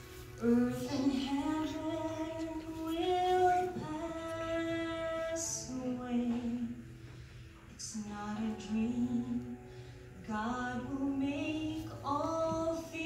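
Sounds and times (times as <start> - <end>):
woman singing into a microphone: 0.3 - 6.9, 7.7 - 13.0.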